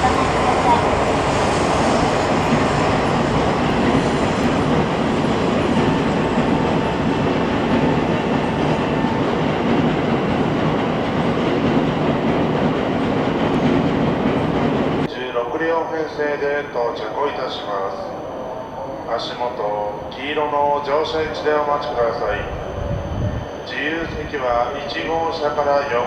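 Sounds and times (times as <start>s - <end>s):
train rolling rumble: 0.0s - 15.2s, 18.6s - 26.0s.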